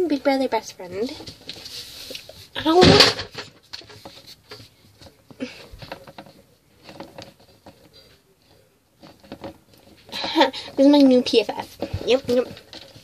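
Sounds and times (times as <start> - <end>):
plastic toys tapping and rustling: 0.3 - 13.0.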